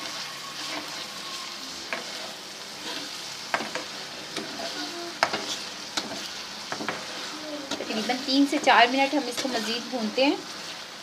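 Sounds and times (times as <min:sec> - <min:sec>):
spoon scraping against pan: 0:00.0 - 0:10.8
food sizzling in a pan: 0:00.0 - 0:11.0.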